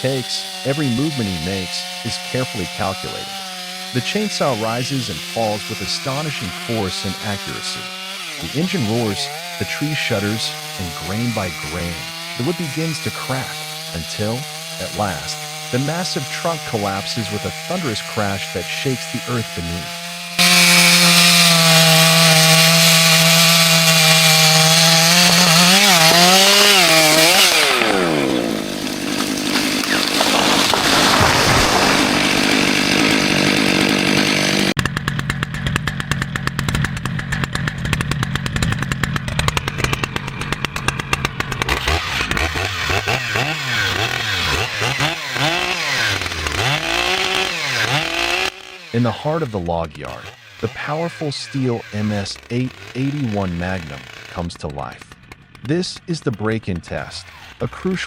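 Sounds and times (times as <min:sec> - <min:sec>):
chainsaw cutting wood: 0:00.0 - 0:58.0
chainsaw revving up and down: 0:00.0 - 0:58.0.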